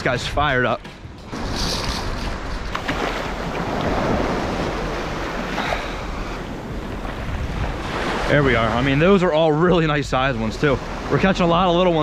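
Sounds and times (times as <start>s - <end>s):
wind on microphone: 0.0s - 12.0s
small waves washing on sand: 1.3s - 12.0s.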